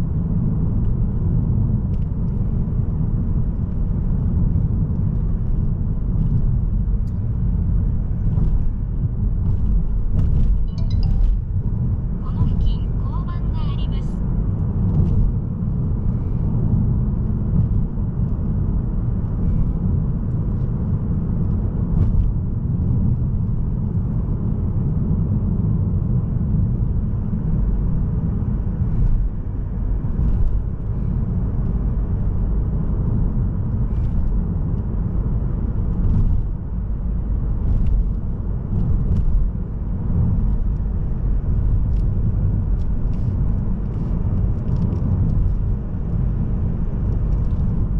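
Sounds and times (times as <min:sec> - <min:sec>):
diesel car engine cruising: 0:00.0 - 0:47.9
tyres rumbling on road: 0:00.0 - 0:47.9.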